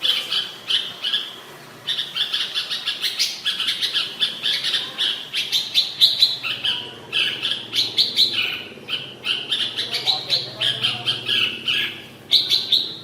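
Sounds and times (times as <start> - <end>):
bird singing chirping notes: 0.0 - 13.0.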